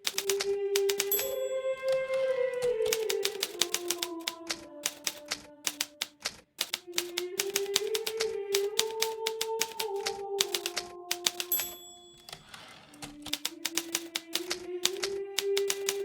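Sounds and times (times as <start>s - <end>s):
typewriter keys striking: 0.0s - 16.0s.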